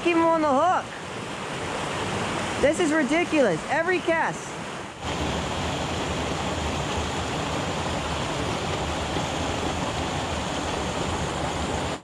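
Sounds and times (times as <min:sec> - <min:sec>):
waterfall rushing over boulders: 0:00.1 - 0:12.0.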